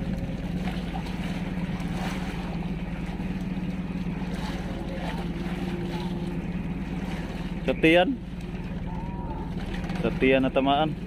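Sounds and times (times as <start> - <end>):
motorboat engine running: 0.0 - 11.0
water noise: 0.0 - 11.0
wind: 0.0 - 11.0.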